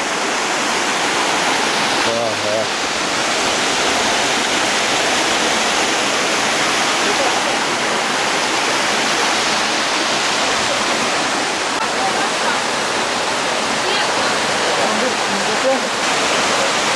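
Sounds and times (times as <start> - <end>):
waterfall rushing over rocks: 0.0 - 16.9.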